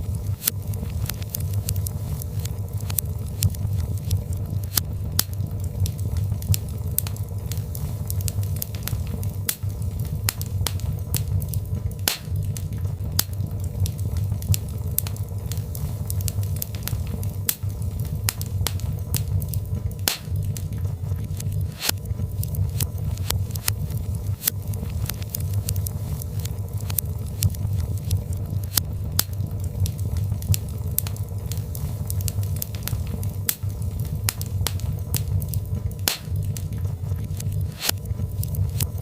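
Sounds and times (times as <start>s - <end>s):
fire crackles and pops: 0.0s - 39.0s
fire rumbling: 0.0s - 39.0s.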